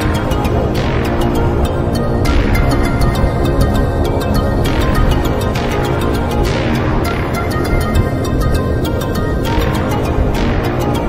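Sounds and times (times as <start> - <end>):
music with ticking beat: 0.0 - 11.0.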